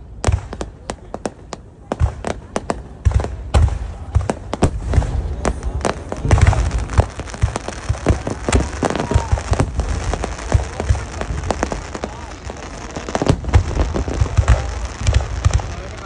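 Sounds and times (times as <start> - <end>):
fireworks crackling: 0.0 - 16.0
low firework booms: 0.0 - 16.0.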